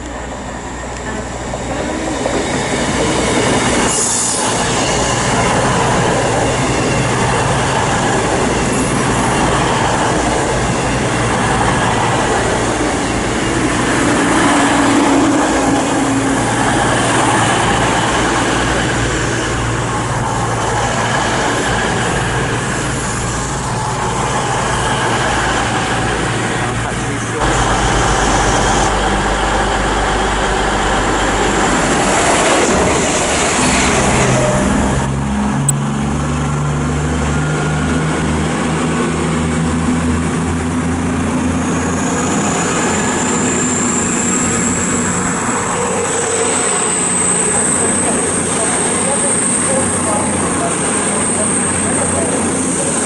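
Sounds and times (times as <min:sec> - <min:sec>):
diesel train engines humming: 0:00.0 - 0:53.0
rail noise: 0:00.0 - 0:53.0.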